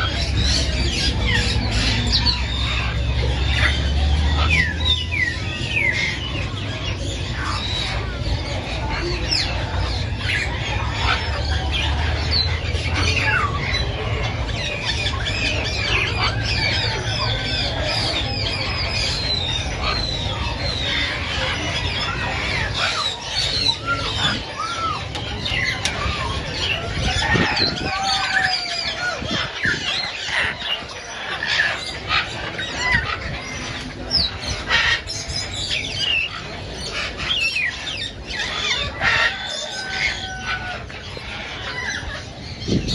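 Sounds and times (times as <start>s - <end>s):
caged birds calling: 0.0s - 42.9s.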